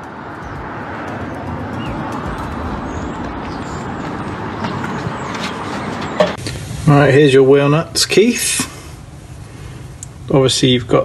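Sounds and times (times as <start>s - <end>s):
road traffic hiss: 0.0s - 11.0s.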